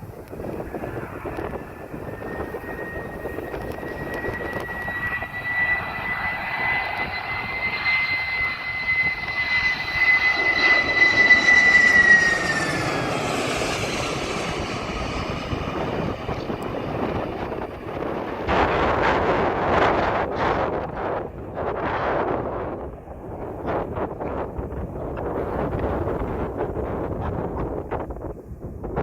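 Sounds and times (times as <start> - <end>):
airliner engines flying past: 0.0 - 29.0.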